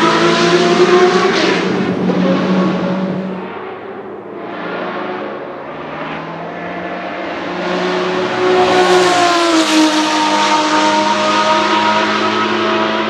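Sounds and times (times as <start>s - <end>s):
racing car engine passing by: 0.0s - 13.0s.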